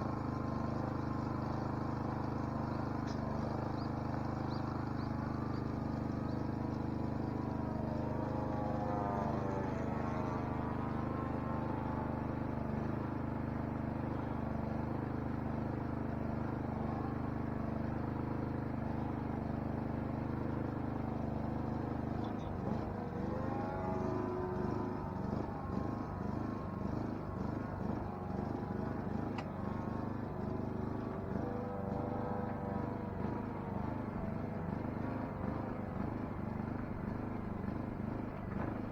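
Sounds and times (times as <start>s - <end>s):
model aircraft engine running: 0.0s - 38.9s.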